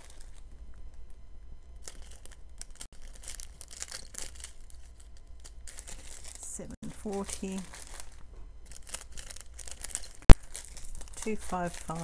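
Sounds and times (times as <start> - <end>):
plastic bags crinkling: 0.0 - 1.2, 1.8 - 12.0.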